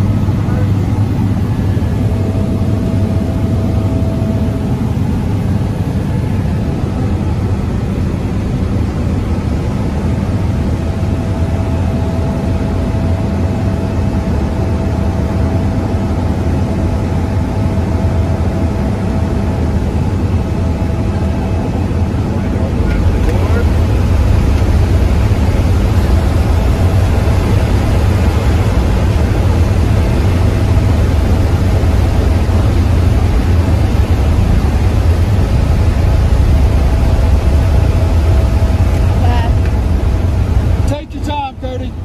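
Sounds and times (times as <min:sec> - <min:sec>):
plane engine and propeller drone: 0:00.0 - 0:42.0.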